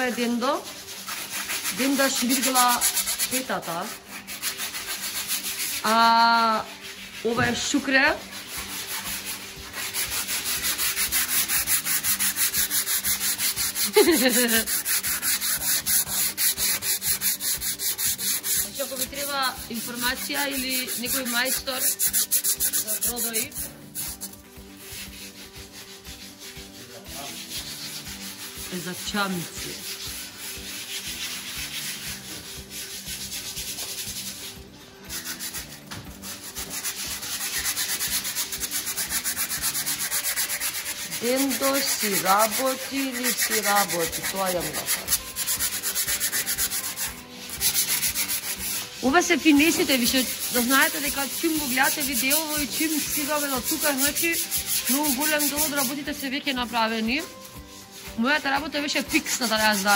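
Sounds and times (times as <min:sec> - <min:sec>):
sandpaper rasping on metal: 0:00.0 - 0:59.9.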